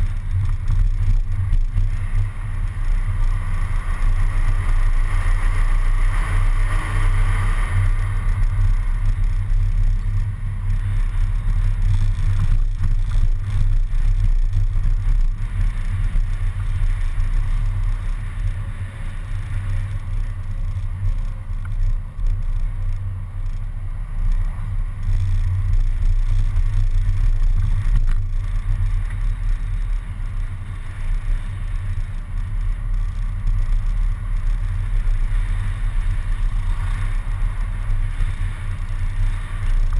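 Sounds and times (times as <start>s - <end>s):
bus engine rumble: 0.0s - 39.9s
road noise: 0.0s - 39.9s
wind noise: 0.0s - 39.9s.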